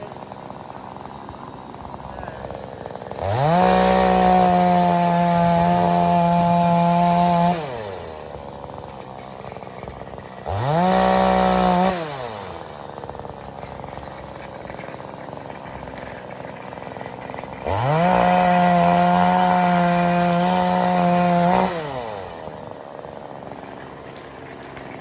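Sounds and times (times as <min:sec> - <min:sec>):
chainsaw revving and idling: 0:00.0 - 0:25.0.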